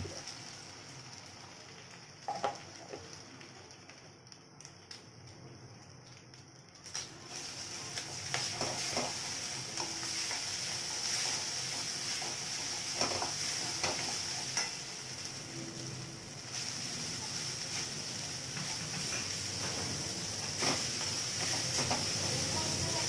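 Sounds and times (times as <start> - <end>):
food frying with sizzle: 0.0 - 23.0.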